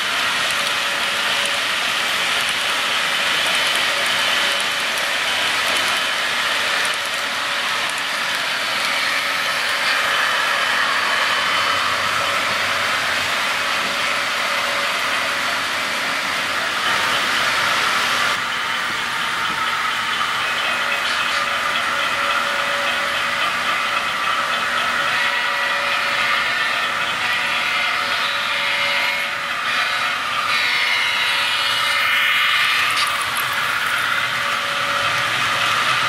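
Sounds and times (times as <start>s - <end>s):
model train wheels rumbling on rails: 0.0s - 36.0s.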